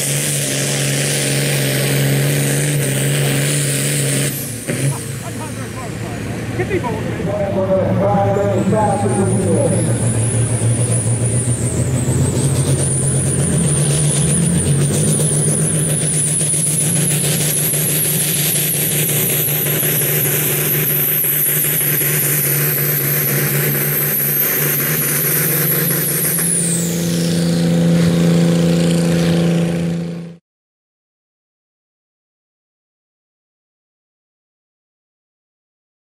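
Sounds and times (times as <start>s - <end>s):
diesel tractor engine at full throttle: 0.0s - 30.4s.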